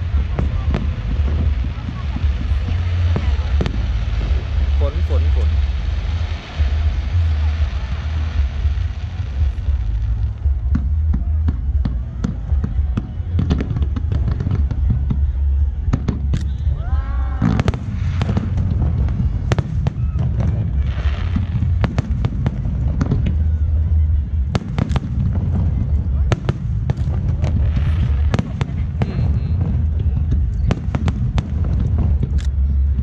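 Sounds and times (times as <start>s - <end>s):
fireworks bangs and crackles: 0.0s - 33.0s
low rumble: 0.0s - 33.0s.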